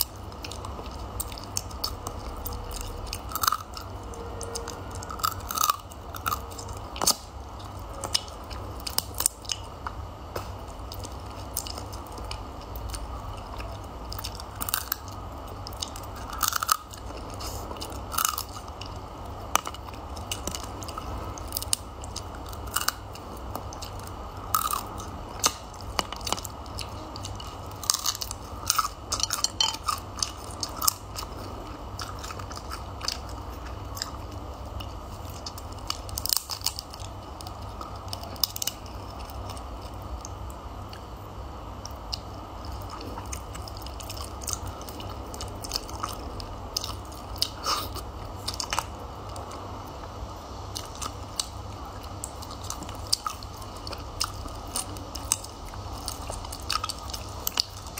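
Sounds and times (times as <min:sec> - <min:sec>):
chewing crab meat: 0:00.0 - 0:57.9.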